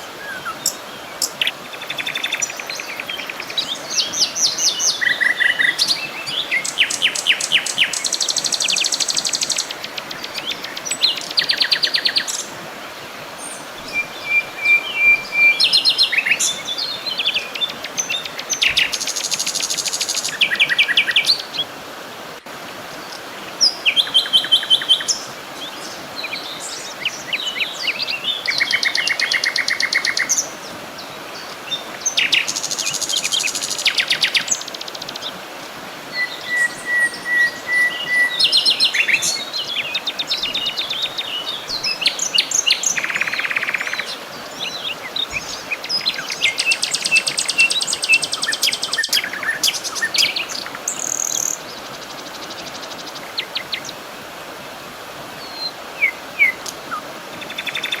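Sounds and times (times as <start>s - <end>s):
wild birds singing and calling: 0.0s - 21.8s, 22.6s - 54.2s, 55.2s - 58.0s
steady background hiss: 0.0s - 58.0s.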